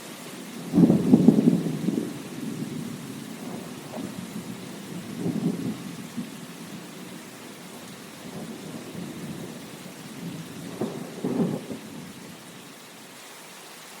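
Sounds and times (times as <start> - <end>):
rain hissing: 0.0 - 14.0
rolling thunder: 0.6 - 12.4.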